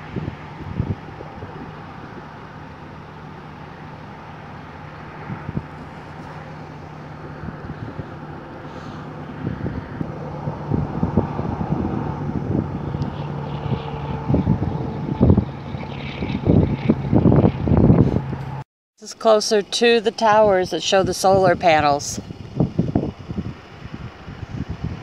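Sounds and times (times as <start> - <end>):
wind buffeting microphone: 0.0 - 18.6, 20.5 - 25.0
car road noise: 0.0 - 25.0
low engine hum: 0.0 - 25.0.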